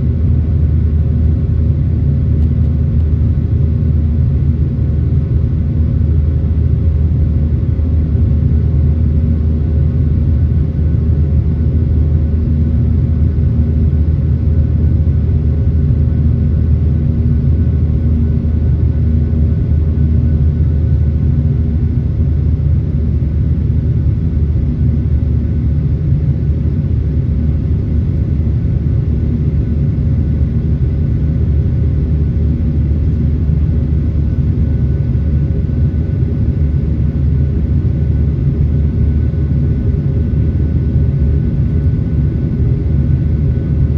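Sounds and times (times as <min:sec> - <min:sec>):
faint steady hum: 0:00.0 - 0:43.9
jet engines rumbling in cabin: 0:00.0 - 0:43.9.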